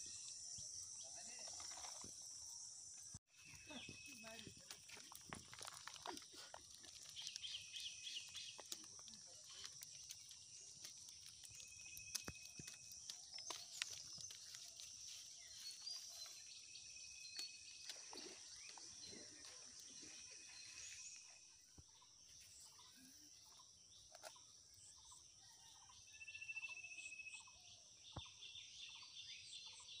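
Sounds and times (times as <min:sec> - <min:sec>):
bird chirps: 0:00.0 - 0:06.2, 0:06.9 - 0:25.2.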